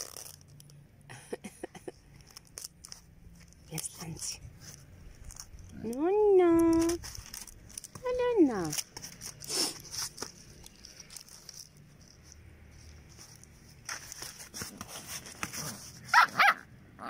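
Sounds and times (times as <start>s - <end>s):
plastic rustling and crinkling: 0.0s - 1.1s, 1.7s - 16.2s.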